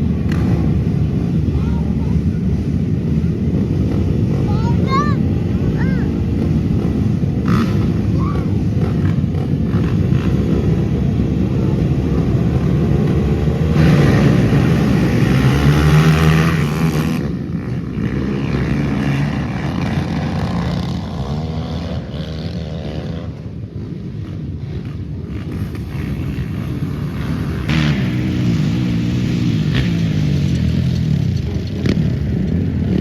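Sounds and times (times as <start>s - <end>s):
quad engines revving: 0.0s - 33.0s.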